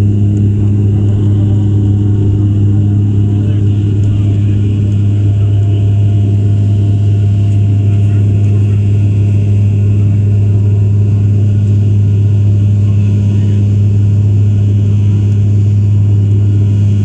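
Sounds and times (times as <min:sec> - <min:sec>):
propeller plane cabin drone: 0:00.0 - 0:17.0.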